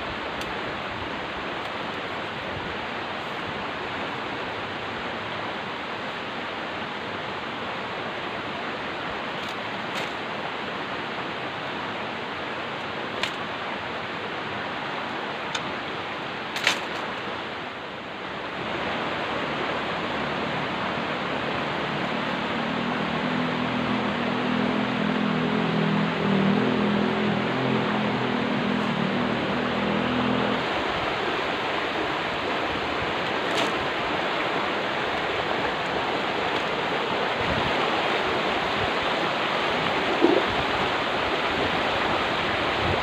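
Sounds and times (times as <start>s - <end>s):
flowing river water: 0.0s - 43.0s.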